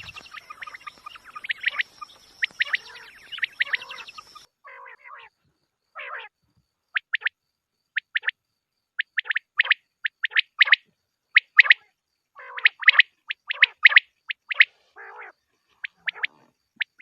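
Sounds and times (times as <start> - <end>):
quail calling: 0.0 - 5.3, 6.0 - 6.3, 9.0 - 17.0.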